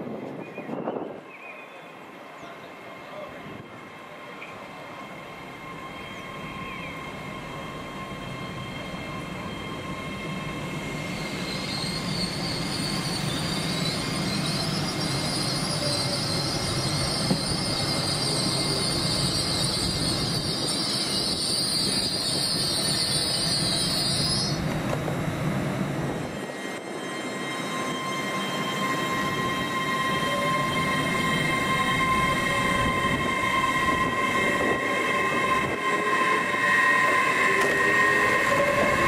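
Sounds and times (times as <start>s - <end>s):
train running noise: 0.0s - 39.0s
wheel squeal: 5.7s - 24.6s, 26.4s - 39.0s.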